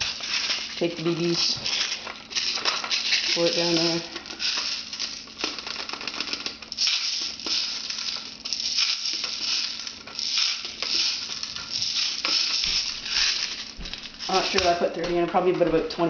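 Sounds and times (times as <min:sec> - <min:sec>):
plastic pellets rattling into gun: 0:00.0 - 0:14.8.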